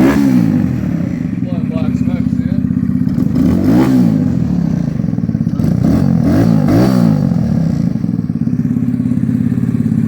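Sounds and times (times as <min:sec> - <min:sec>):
motorcycle engine revving and idling: 0:00.0 - 0:10.0.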